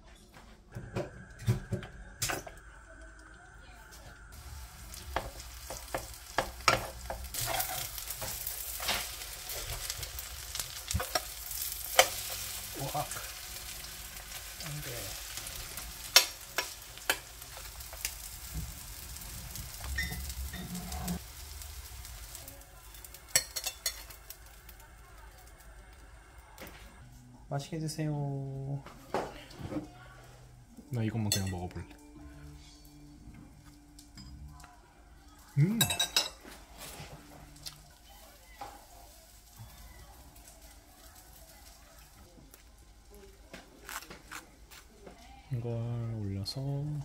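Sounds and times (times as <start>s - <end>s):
food sizzling in a pan: 3.8s - 27.0s, 30.9s - 47.0s.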